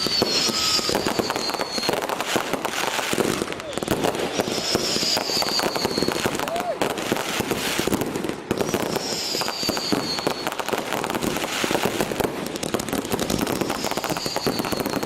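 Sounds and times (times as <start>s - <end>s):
firework whistles: 0.0s - 15.0s
fireworks crackling bangs: 0.0s - 15.0s.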